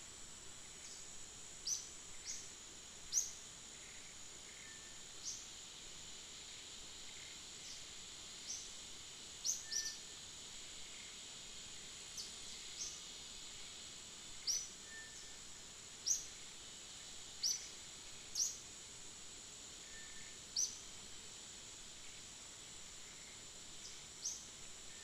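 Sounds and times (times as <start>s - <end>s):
high insect drone: 0.0s - 25.0s.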